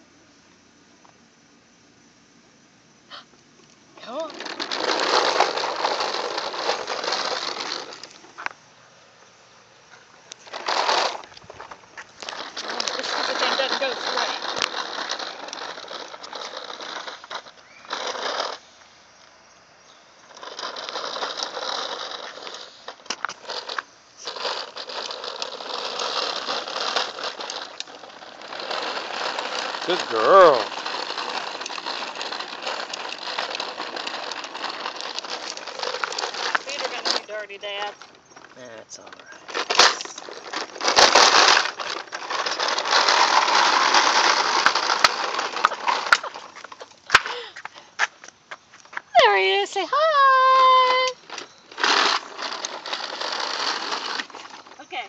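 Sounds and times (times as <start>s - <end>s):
plastic wheels rolling on concrete: 2.4s - 55.0s.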